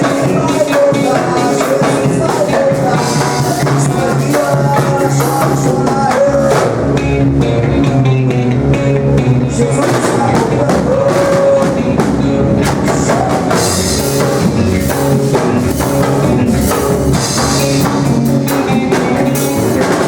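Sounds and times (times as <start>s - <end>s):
band playing rock gospel music: 0.0s - 20.0s.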